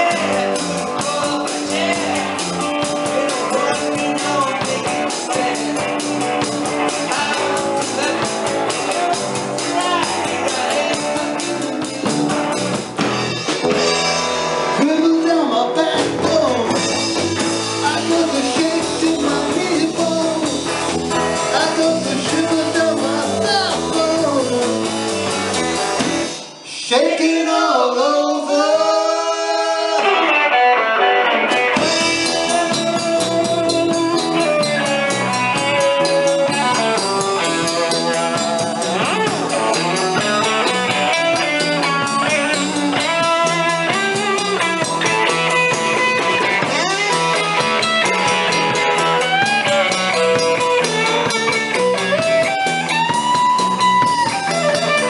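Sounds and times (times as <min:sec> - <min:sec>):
person singing: 0:00.0 - 0:12.8, 0:14.6 - 0:25.2, 0:26.0 - 0:53.0
drum kit: 0:00.0 - 0:26.7, 0:29.9 - 0:55.0
bass guitar: 0:00.0 - 0:26.8, 0:28.6 - 0:55.0
electric guitars: 0:00.0 - 0:27.6, 0:28.5 - 0:55.0.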